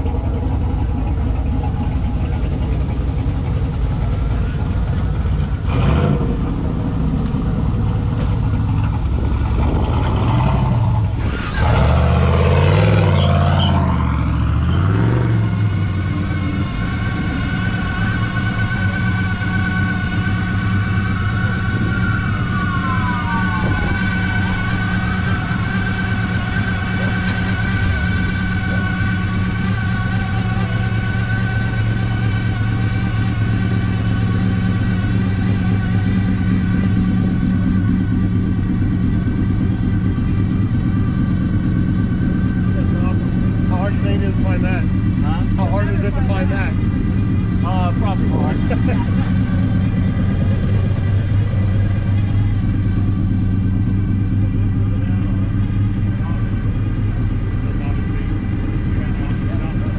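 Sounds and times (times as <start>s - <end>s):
steady engine drone: 0.0s - 59.9s.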